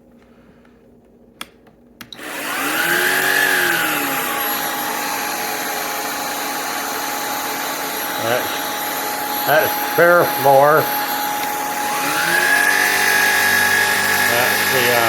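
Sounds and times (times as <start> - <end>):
vacuum motor whine: 2.0 - 15.0.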